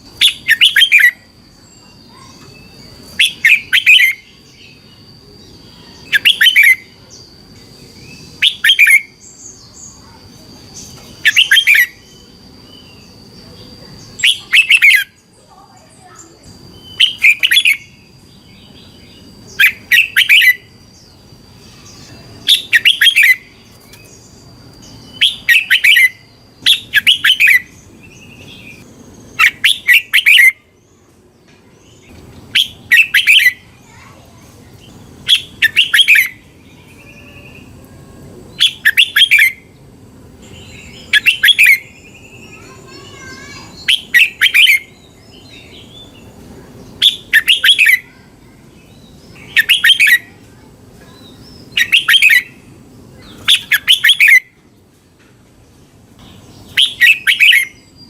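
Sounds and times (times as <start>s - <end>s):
bird chirping: 0.0s - 54.8s, 55.7s - 58.0s.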